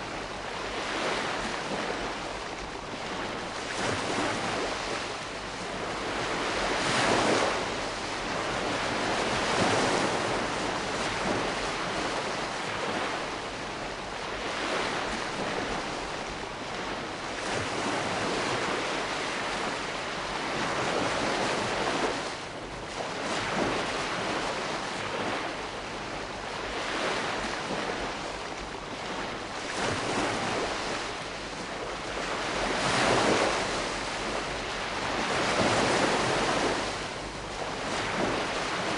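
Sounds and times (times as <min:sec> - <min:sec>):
gentle waves breaking: 0:00.0 - 0:38.9.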